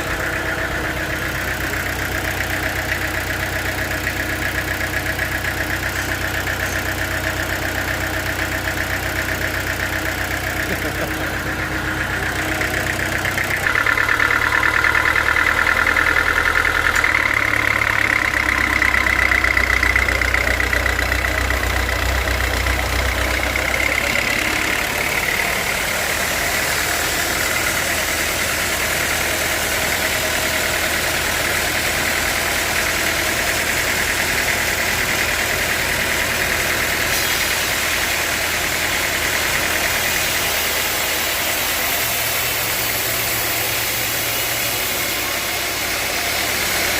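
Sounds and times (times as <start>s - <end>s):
sawmill saw cutting log: 0.0s - 46.9s.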